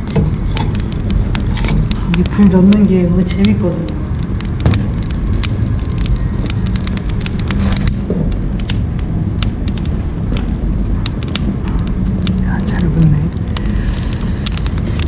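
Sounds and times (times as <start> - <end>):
firewood crackling and popping: 0.0 - 15.0
low rumble of flames: 0.0 - 15.0.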